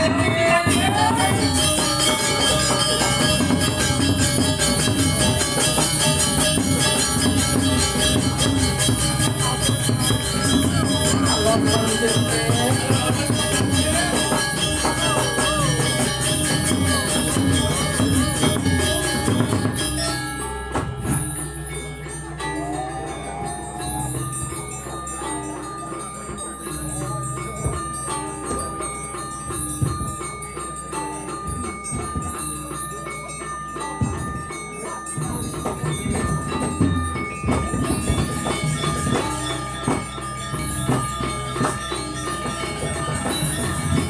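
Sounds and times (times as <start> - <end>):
drum strokes: 0.0 - 32.9, 33.8 - 44.0
gongs ringing: 0.0 - 44.0
metallophones ringing: 0.0 - 44.0
small cymbals clashing: 0.0 - 44.0.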